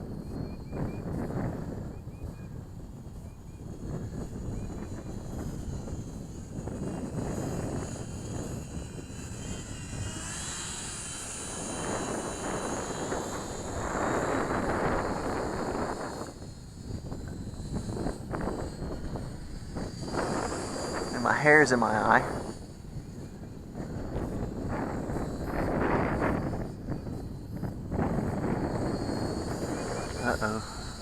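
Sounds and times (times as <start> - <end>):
model plane motors whining: 0.0 - 31.0
wind rumble on microphone: 0.0 - 31.0.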